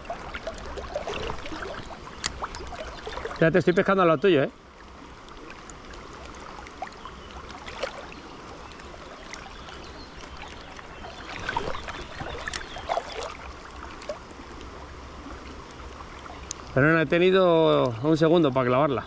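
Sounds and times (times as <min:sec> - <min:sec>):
water splashing: 0:00.0 - 0:16.8
river current rushing: 0:00.0 - 0:19.0.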